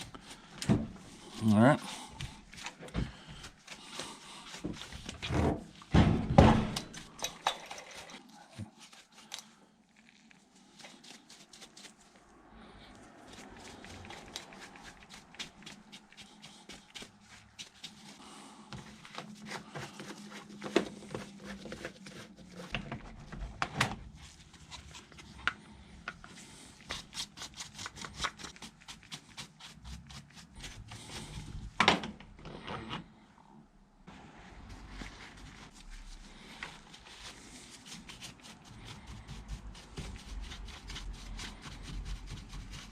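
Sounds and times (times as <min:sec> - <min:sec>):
scraping and brushing strokes: 0:00.0 - 0:06.0, 0:06.6 - 0:31.8, 0:34.0 - 0:42.9.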